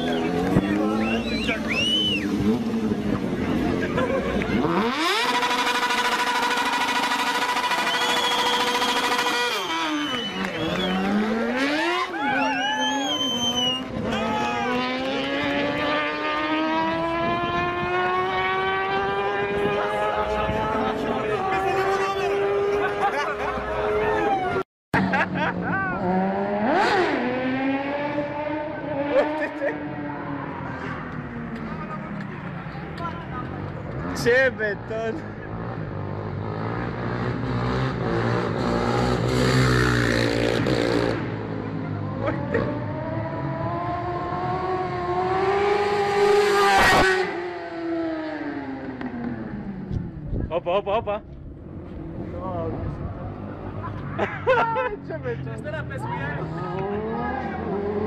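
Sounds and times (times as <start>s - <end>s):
racing engine at full throttle: 0.0s - 50.6s, 51.3s - 58.0s.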